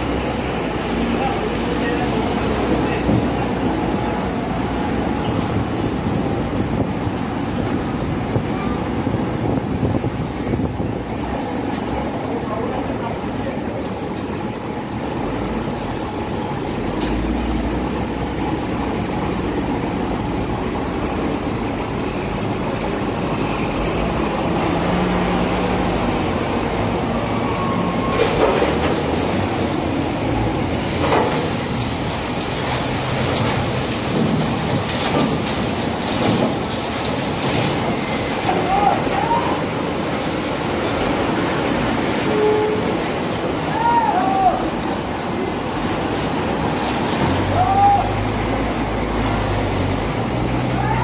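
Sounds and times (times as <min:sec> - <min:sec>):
heavy mechanical rumble: 0:00.0 - 0:51.0.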